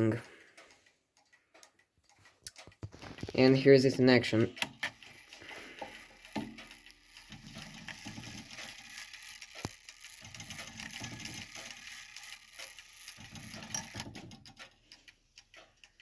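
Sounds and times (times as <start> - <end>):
clock gears whirring and ratcheting: 0.0 - 16.0.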